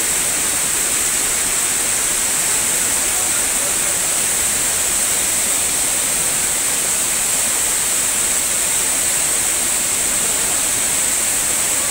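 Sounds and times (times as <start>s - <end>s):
water rushing over a kerb: 0.0s - 11.9s.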